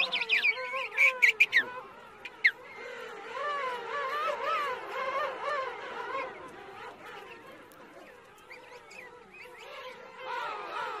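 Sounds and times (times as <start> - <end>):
penguins braying: 0.0 - 11.0.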